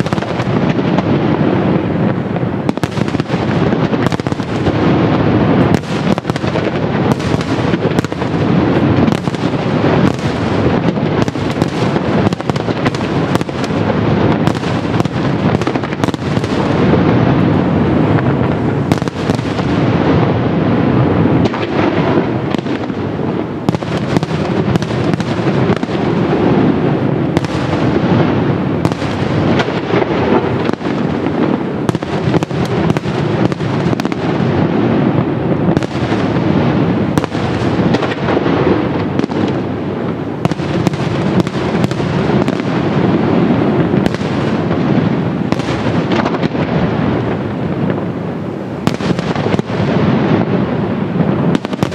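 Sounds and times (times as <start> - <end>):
fireworks bursts and bangs: 0.0 - 51.9
steady fireworks rumble: 0.0 - 51.9.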